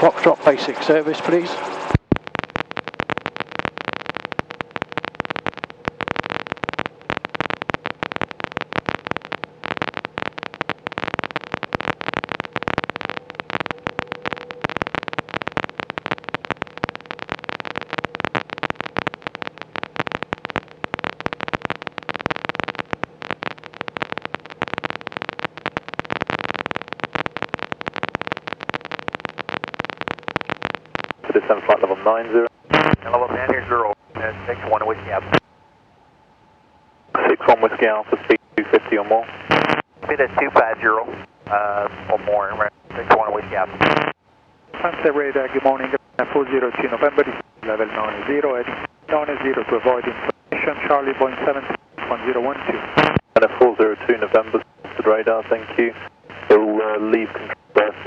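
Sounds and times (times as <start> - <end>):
radio interference crackling: 0.0 - 35.5, 37.1 - 58.0
steady hum: 0.0 - 58.0.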